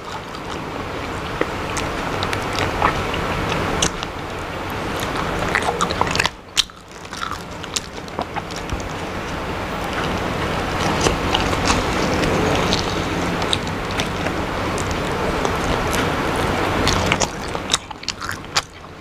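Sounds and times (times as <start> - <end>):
wet mouth clicks and smacks: 0.0 - 4.2, 4.9 - 9.4, 10.0 - 19.0
person chewing food: 0.0 - 19.0
steady background noise: 0.0 - 19.0.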